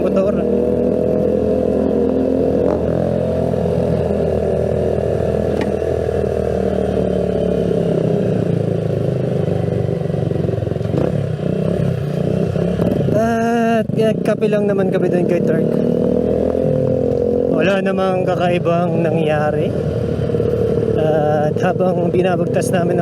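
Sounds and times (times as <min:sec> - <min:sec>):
motorcycle engines running loud: 0:00.0 - 0:23.0.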